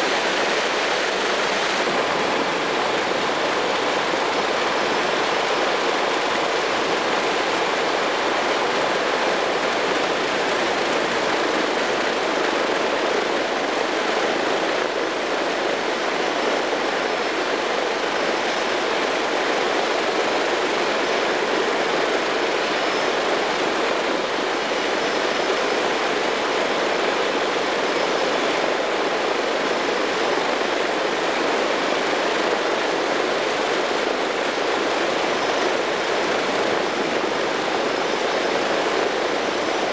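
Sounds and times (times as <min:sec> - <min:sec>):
propeller aircraft engines running: 0:00.0 - 0:39.9.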